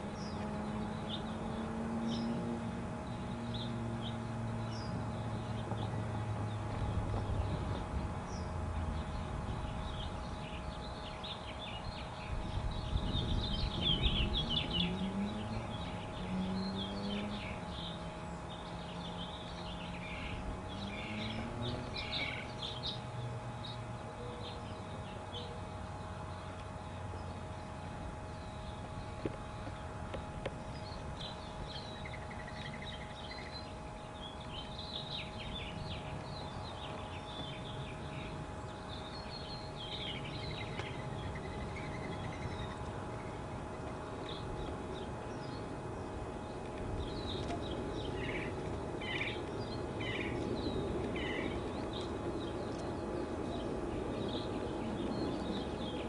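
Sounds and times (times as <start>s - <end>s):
faint steady hum: 0.0s - 56.0s
low mechanical drone: 0.0s - 56.0s
small birds chirping: 0.0s - 56.0s.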